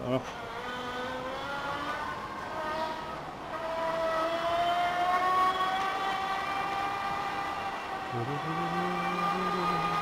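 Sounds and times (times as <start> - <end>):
electric bike motor whining: 0.3 - 10.0.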